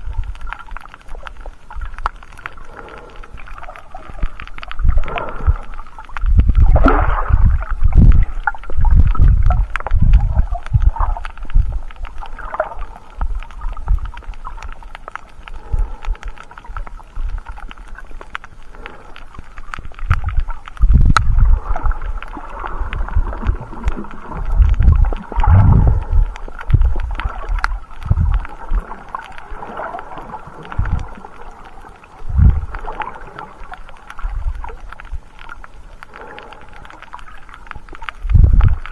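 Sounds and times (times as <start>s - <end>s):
faint steady underwater murmur: 0.0s - 38.9s
underwater rumbling surges: 0.0s - 38.9s.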